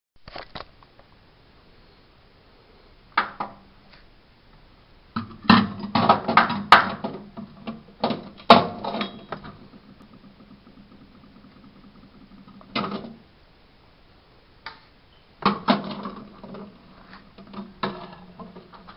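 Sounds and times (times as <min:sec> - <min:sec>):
low steady hum: 0:00.2 - 0:18.9.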